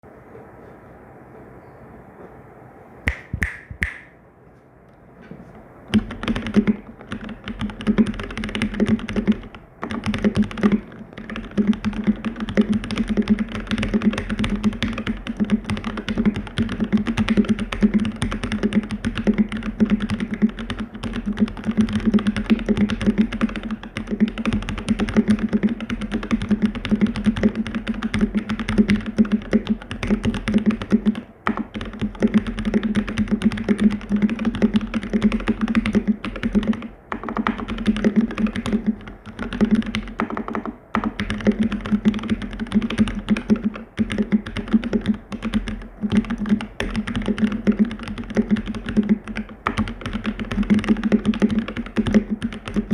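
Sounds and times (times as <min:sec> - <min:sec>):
fast typing on mechanical keyboard: 0:05.9 - 0:52.9.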